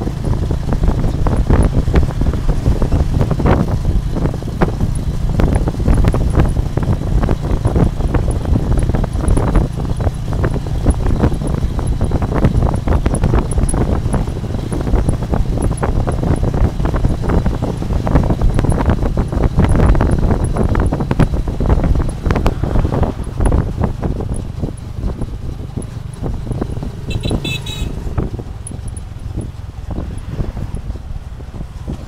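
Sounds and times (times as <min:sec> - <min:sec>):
low engine rumble: 0:00.0 - 0:32.0
wind buffeting microphone: 0:00.0 - 0:32.0.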